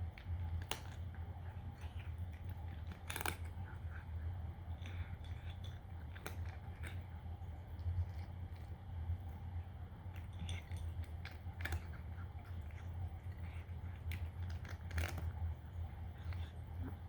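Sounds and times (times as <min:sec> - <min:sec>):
cat crunching dry kibble: 0:00.0 - 0:17.0
low hum: 0:00.0 - 0:17.0.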